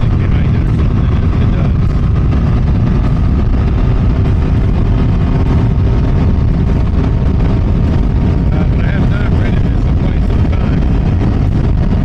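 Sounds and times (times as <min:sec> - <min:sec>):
engine drone: 0:00.0 - 0:12.0
wind buffeting microphone: 0:00.0 - 0:12.0.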